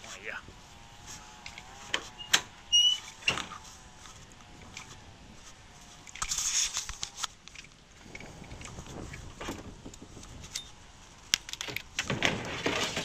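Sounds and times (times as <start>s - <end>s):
scraping and rustling: 0.0s - 13.0s.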